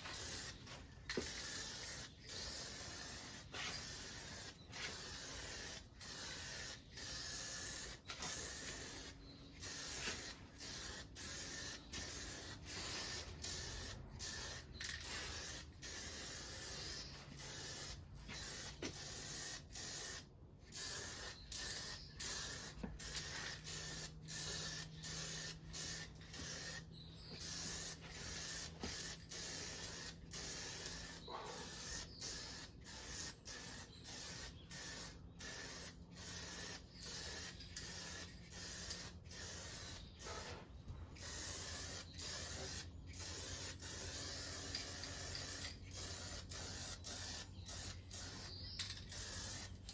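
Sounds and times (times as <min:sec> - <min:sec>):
spray paint hissing in bursts: 0:00.0 - 0:49.9.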